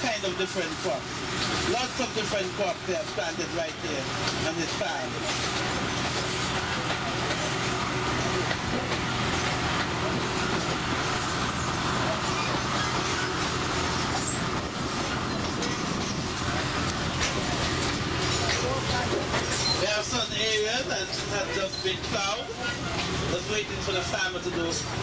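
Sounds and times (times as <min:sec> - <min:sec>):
train wheel and track noise: 0:00.0 - 0:25.0.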